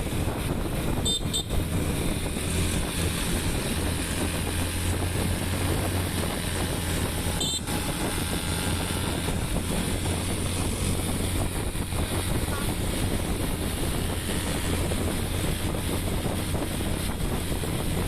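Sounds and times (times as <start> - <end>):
motorbike engine running: 0.0 - 18.0
wind rushing over microphone: 0.0 - 18.0.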